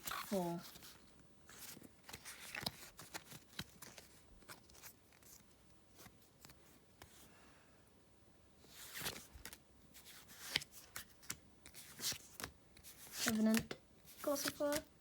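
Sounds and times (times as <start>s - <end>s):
trading cards rustling: 0.0s - 7.2s, 8.7s - 14.9s.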